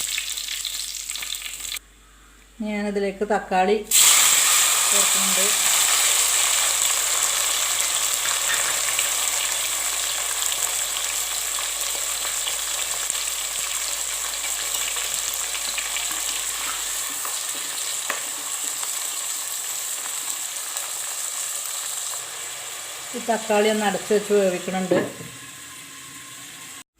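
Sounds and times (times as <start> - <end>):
tomatoes sizzling in hot oil: 0.0 - 1.8, 3.9 - 26.9.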